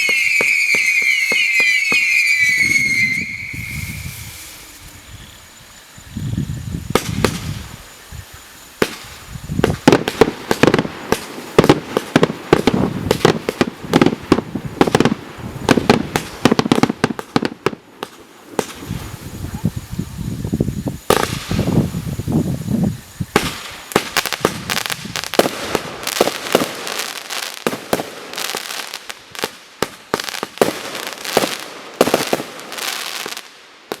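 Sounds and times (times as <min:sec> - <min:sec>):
firework bangs and crackles: 0:00.0 - 0:05.3, 0:06.0 - 0:34.0.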